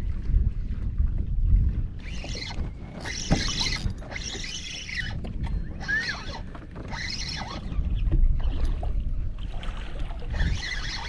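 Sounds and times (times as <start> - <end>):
water splashing against boat hull: 0.0 - 11.0.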